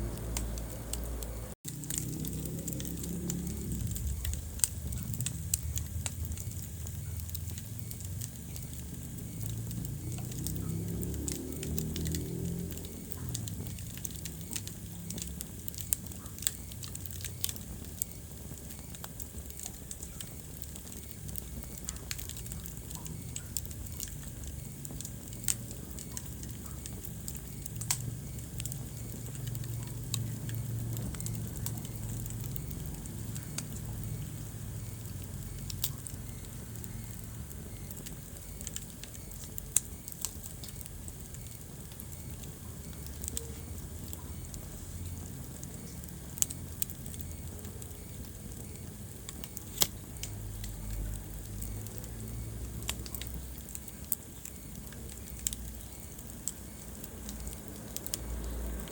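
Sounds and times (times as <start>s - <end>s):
fire rumbling: 0.0s - 58.9s
logs crackling and popping: 0.0s - 58.9s.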